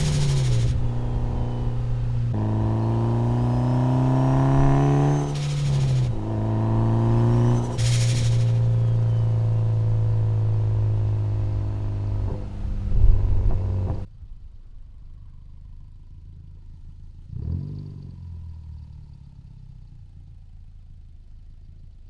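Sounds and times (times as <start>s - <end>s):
car engine droning: 0.0s - 22.0s
faint turbo whine: 0.0s - 22.0s.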